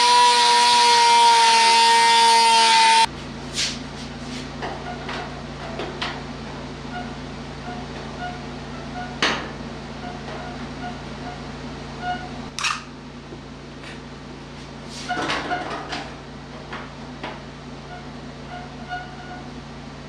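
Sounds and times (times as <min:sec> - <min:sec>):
low shop hum: 0:00.0 - 0:20.0.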